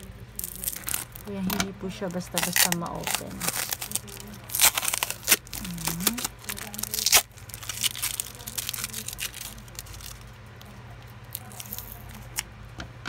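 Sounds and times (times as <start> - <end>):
packing tape and paper crinkling: 0.0 - 12.5.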